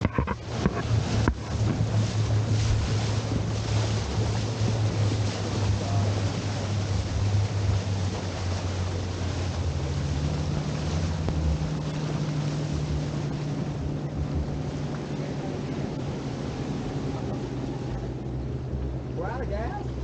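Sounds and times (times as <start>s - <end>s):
boat engine humming: 0.0s - 20.0s
water rushing: 0.0s - 20.0s
wind buffeting microphone: 0.0s - 20.0s.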